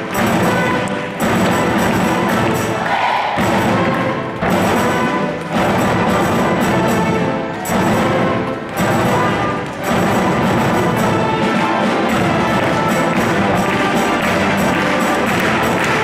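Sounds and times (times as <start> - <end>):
orchestra playing loudly: 0.0 - 16.0.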